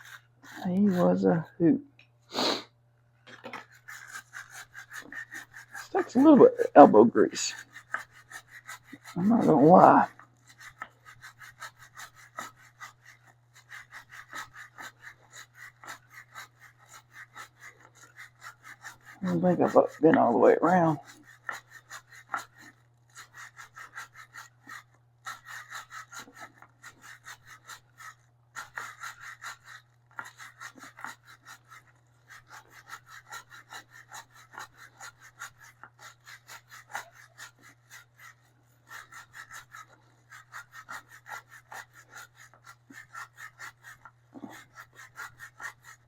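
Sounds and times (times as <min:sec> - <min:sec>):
brush scrubbing motorcycle chain: 0:00.0 - 0:01.5, 0:03.5 - 0:46.0.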